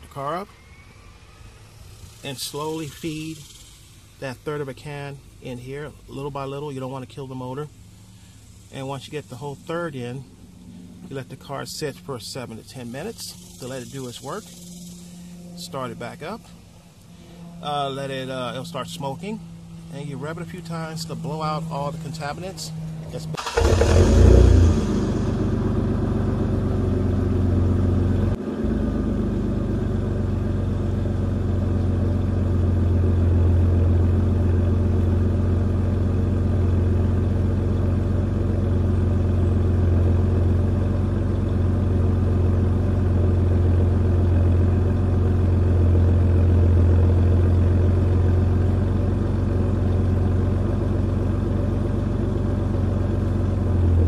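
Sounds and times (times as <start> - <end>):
car engine idling: 1.1 - 54.0.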